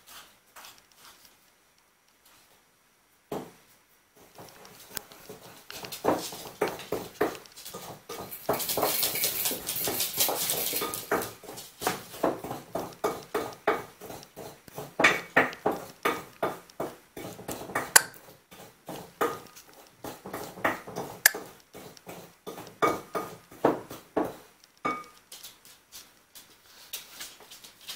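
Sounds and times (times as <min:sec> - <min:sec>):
rustling hiss: 0:00.0 - 0:27.9
dog claws clicking on tile floor: 0:04.2 - 0:27.9.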